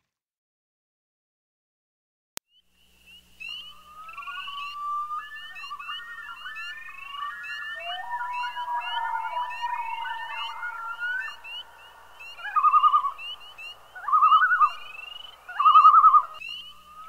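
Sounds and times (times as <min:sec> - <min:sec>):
birds singing and chirping: 0:02.8 - 0:17.0.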